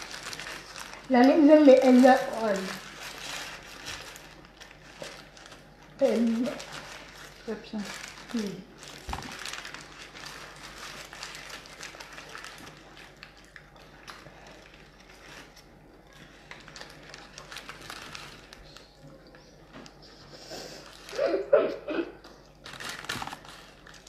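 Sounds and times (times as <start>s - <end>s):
paper wrappers rustling: 0.0s - 21.6s, 22.3s - 24.0s.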